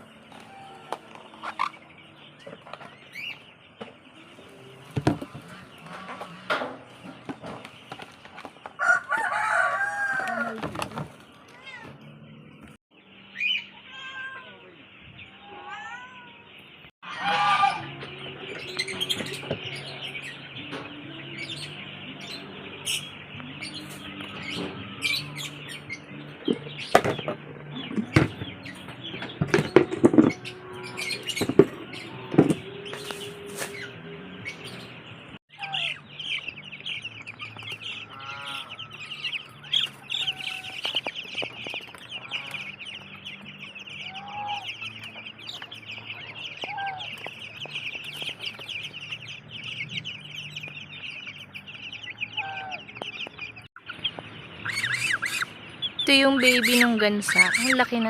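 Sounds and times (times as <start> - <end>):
chicks chirping and peeping: 0.0 - 58.0
faint background music: 0.0 - 58.0.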